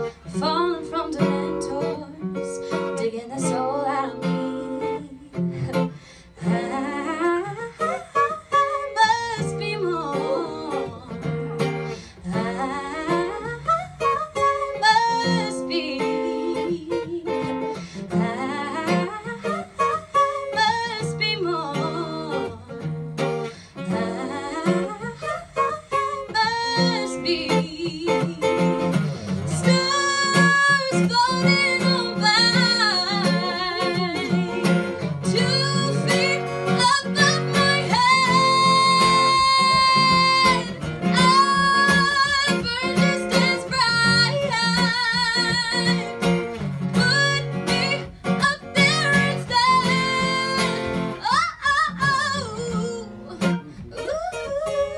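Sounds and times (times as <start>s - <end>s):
acoustic guitar: 0.0s - 54.9s
woman singing into a microphone: 0.0s - 54.9s.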